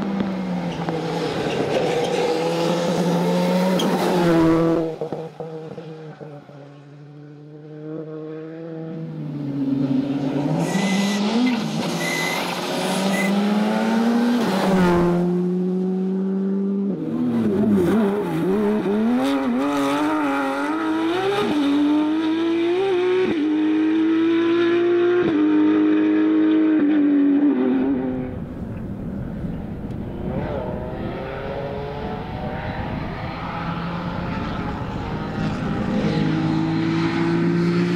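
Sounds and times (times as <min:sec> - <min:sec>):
rally car engine revving: 0:00.0 - 0:28.5, 0:29.9 - 0:37.9.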